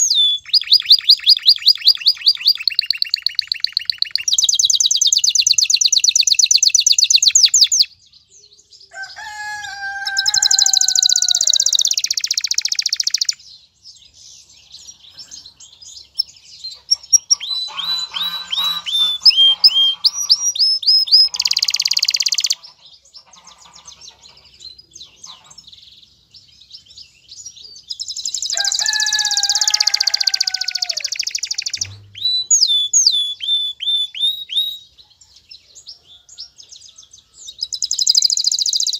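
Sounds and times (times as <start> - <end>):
canary trilling: 0.0 - 7.9, 8.9 - 13.5, 14.2 - 25.9, 27.3 - 35.0, 37.5 - 38.9.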